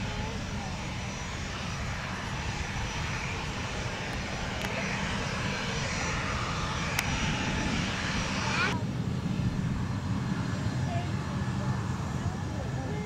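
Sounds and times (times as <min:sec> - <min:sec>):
jet engines rumbling with whine: 0:00.0 - 0:13.0.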